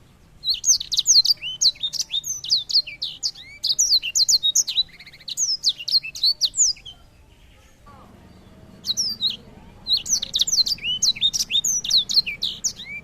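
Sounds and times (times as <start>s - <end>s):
songbird singing whistled notes: 0.0s - 13.0s.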